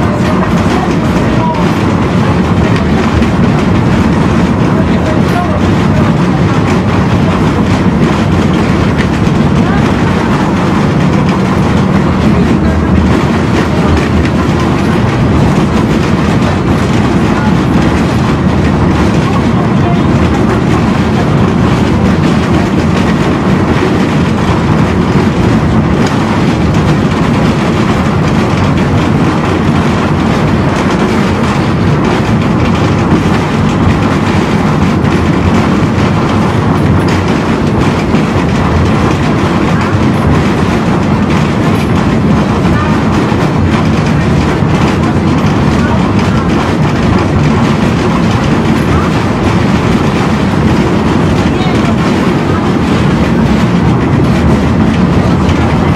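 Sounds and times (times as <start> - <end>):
tram wheels on track: 0.0 - 55.9.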